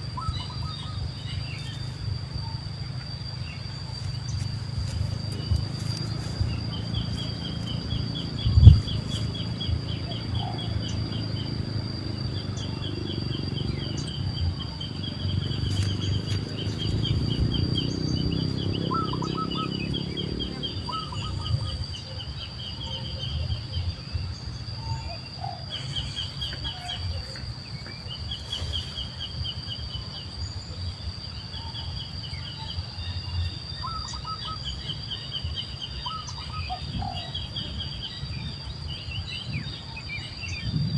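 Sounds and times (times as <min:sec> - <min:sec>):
insect drone: 0:00.0 - 0:40.9
low wind rumble: 0:00.0 - 0:40.9
rapid chirping trills: 0:00.0 - 0:40.9.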